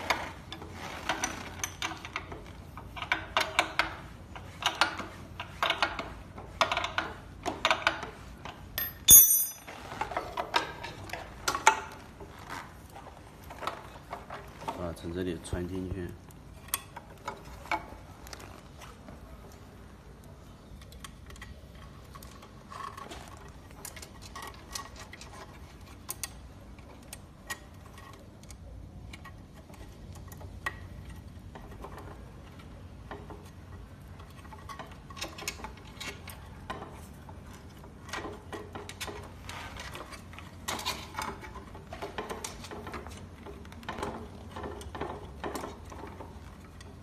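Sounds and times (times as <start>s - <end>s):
metal parts clicking and rattling: 0.0s - 12.6s, 20.8s - 47.0s.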